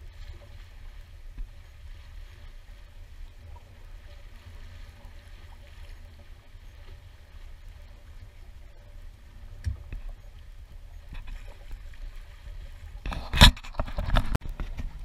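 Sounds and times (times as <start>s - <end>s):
water rushing along hull: 0.0s - 15.0s
wind rumbling on microphone: 0.0s - 15.0s.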